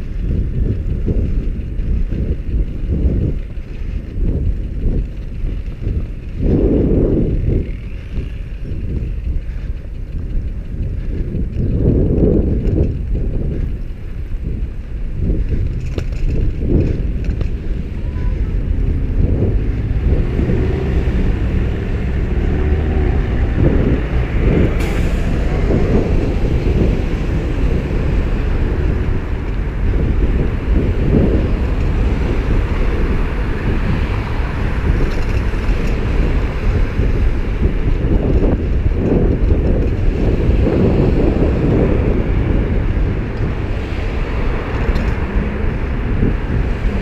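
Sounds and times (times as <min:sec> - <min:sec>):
road traffic: 0:00.0 - 0:47.0
wind buffeting microphone: 0:00.0 - 0:47.0.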